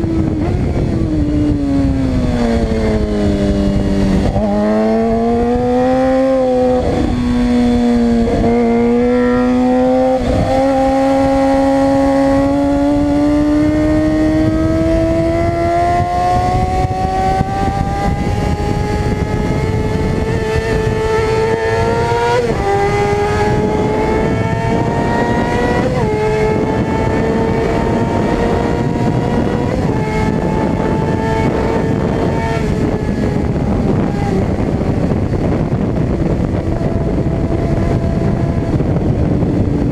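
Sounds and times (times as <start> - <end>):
motorcycle engine revving high: 0.0 - 39.9
wind noise: 0.0 - 39.9.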